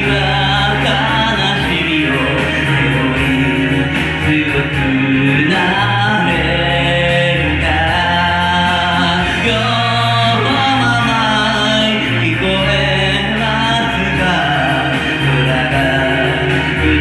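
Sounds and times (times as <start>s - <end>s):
person singing: 0.0s - 17.0s
pop ballad backing track: 0.0s - 17.0s.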